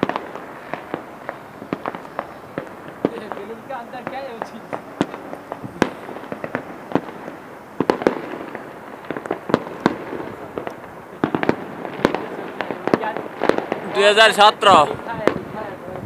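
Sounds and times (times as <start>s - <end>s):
distant fireworks and firecrackers: 0.0s - 16.0s.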